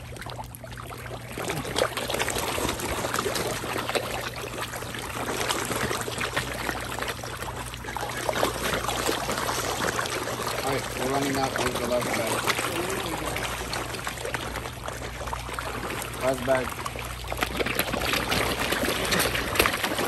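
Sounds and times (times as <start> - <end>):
fish splashing at water surface: 0.0 - 20.0.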